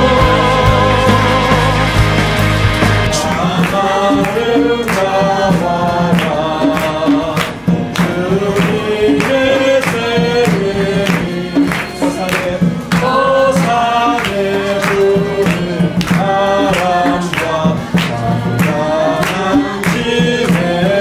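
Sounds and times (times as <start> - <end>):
group singing a hymn: 0.0 - 21.0
music: 0.0 - 21.0
steady beat: 0.0 - 21.0.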